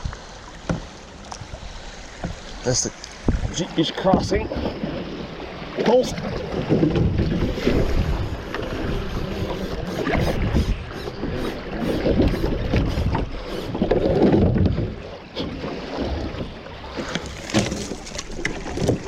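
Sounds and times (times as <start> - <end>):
wind rumbling on microphone: 0.0 - 0.6, 1.3 - 19.0
water splashing around a kayak: 0.0 - 19.0.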